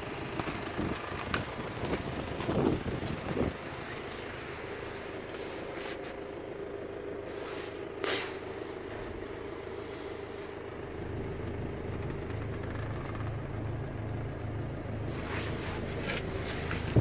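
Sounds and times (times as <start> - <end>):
van engine idling: 0.0 - 17.0
refrigeration unit humming: 0.8 - 17.0.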